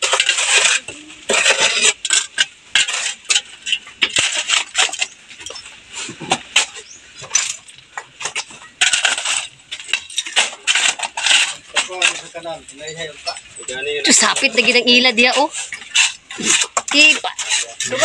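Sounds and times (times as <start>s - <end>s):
spades scraping stony soil: 0.0s - 18.0s.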